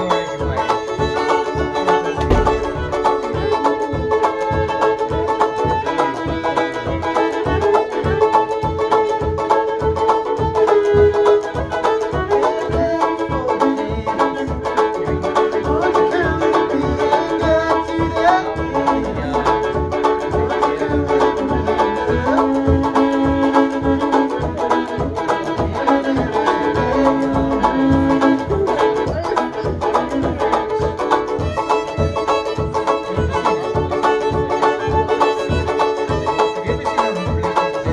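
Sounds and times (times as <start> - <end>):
banjo plucking rhythm: 0.0 - 37.9
fiddle bowing melody: 0.0 - 37.9.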